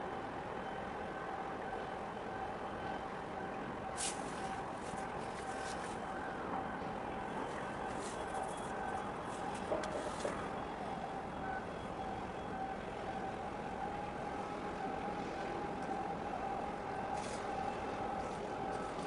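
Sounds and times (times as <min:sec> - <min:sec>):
mechanical drone with whine: 0:00.0 - 0:19.0.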